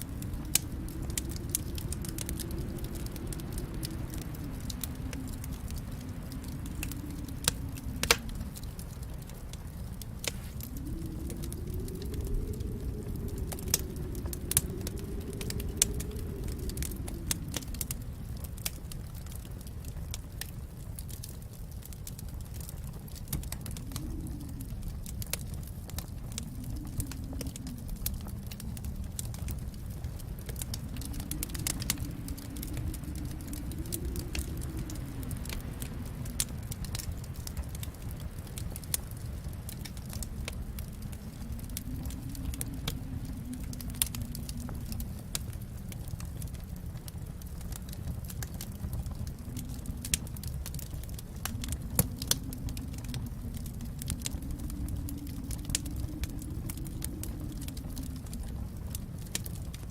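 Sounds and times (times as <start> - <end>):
fire crackling and popping: 0.0 - 59.9
low rumble of flame: 0.0 - 59.9.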